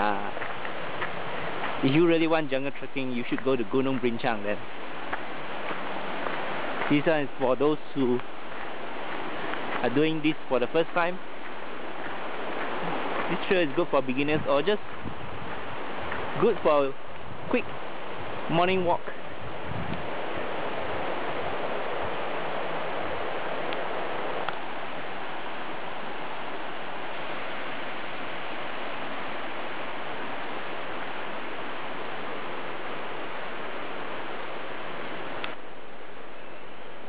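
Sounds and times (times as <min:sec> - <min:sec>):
stream rushing: 0:00.0 - 0:37.0.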